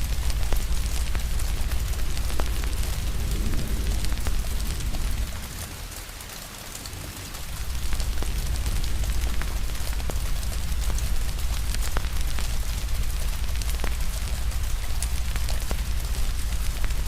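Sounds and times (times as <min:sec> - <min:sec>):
deep low rumble: 0:00.0 - 0:06.0, 0:07.4 - 0:17.0
rain hiss: 0:00.0 - 0:17.0
wood fire crackling: 0:00.0 - 0:17.0.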